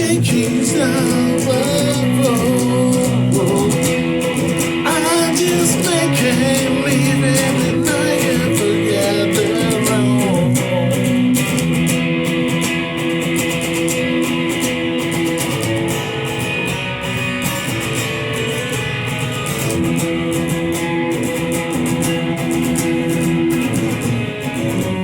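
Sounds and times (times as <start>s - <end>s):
guitar playing picked chords: 0.0s - 25.0s.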